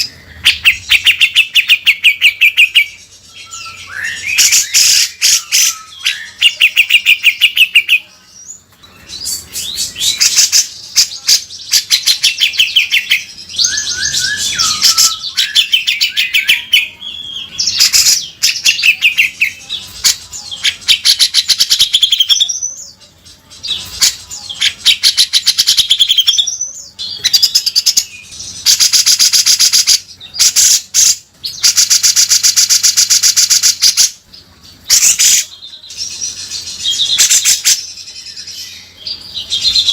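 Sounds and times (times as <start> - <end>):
bird singing harsh rattling notes: 0.0 - 39.9.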